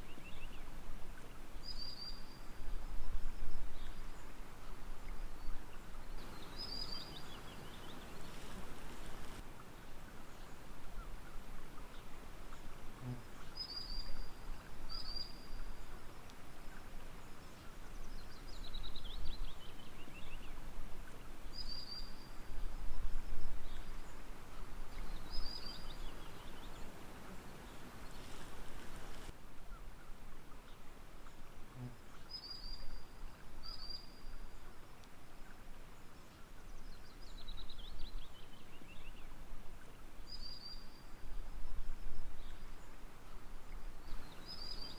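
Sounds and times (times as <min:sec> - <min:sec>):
water noise: 0:00.0 - 0:44.9.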